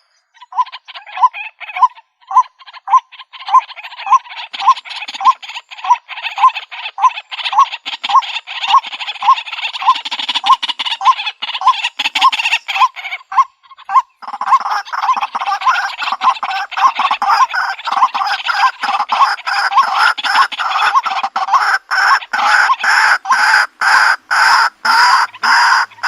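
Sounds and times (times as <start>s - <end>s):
waterhen calling repeated notes: 0.0s - 26.0s.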